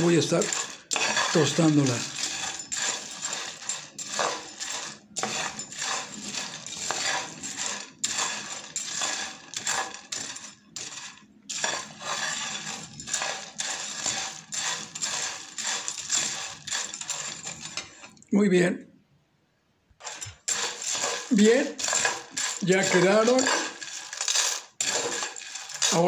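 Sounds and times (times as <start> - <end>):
metal spoon scraping a pan: 0.0 - 18.2, 20.0 - 26.0
seeds rattling in a pan: 0.0 - 18.2, 20.0 - 26.0.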